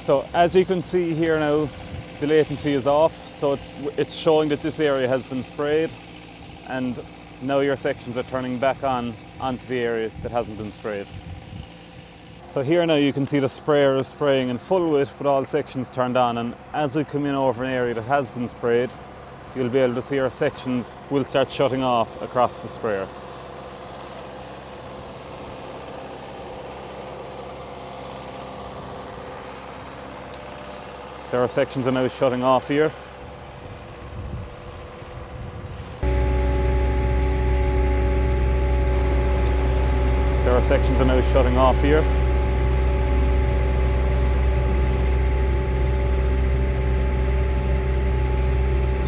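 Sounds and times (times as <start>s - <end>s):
sprayer engine running: 0.0s - 49.0s.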